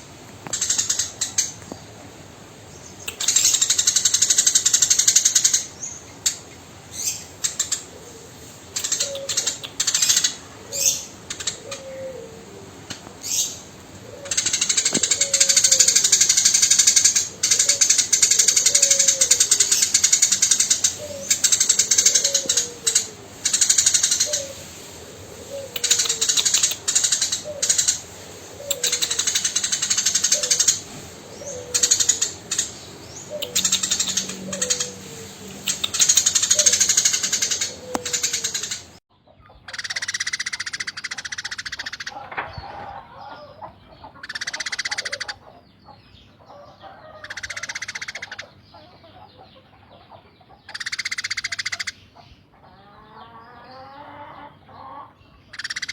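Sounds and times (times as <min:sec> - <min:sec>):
sparrow chirping: 0:00.5 - 0:01.9, 0:02.6 - 0:39.0, 0:39.6 - 0:42.6, 0:43.2 - 0:53.9, 0:54.5 - 0:55.9.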